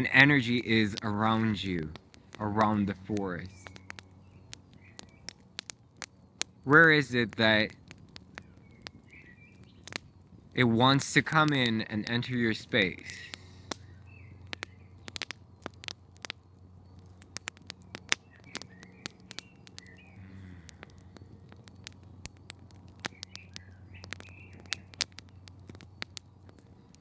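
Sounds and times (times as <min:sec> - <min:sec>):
low steady hum: 0:00.0 - 0:27.0
sharp ticks and crackles: 0:00.0 - 0:27.0
faint bird chirps: 0:02.8 - 0:10.7, 0:11.4 - 0:27.0.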